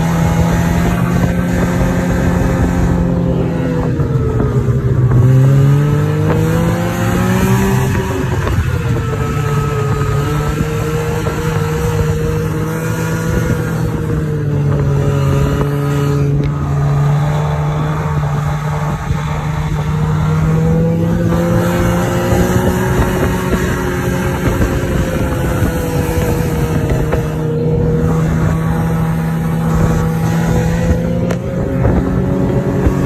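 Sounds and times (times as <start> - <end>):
snowmobile engine running: 0.0 - 33.0.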